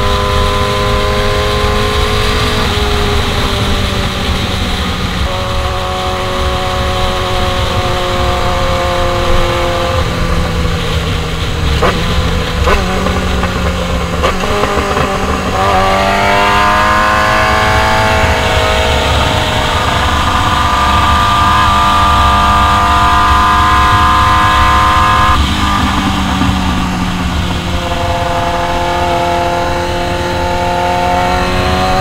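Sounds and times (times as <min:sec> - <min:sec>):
exhaust pops: 0:00.0 - 0:32.0
motorcycle engine revving: 0:00.0 - 0:32.0
wind rush: 0:00.0 - 0:32.0.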